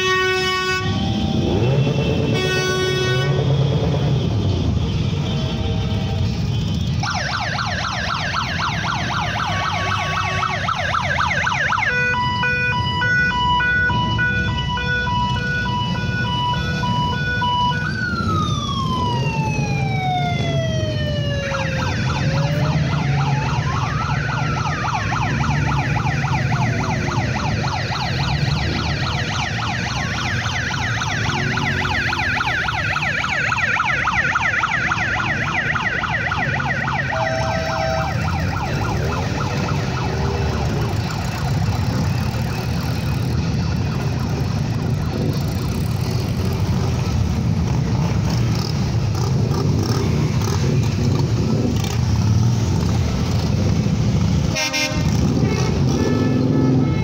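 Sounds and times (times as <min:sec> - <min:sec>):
electronic siren: 0:00.0 - 0:57.0
motorcycle engines rumbling: 0:00.0 - 0:57.0.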